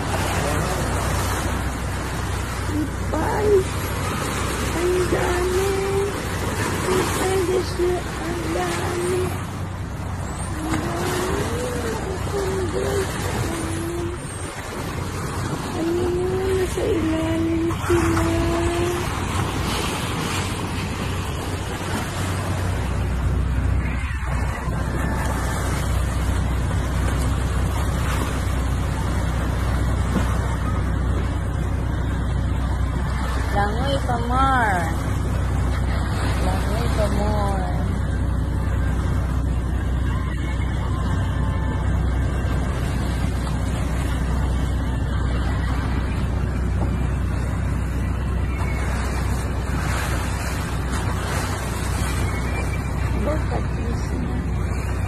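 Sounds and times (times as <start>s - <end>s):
boat motor rumble: 0.0s - 55.0s
water rushing past hull: 0.0s - 55.0s.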